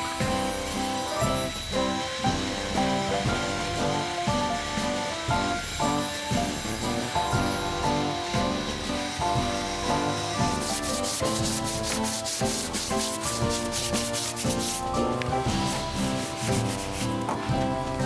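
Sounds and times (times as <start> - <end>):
background music: 0.0 - 18.0
sandpaper rubbing on metal: 0.0 - 18.0.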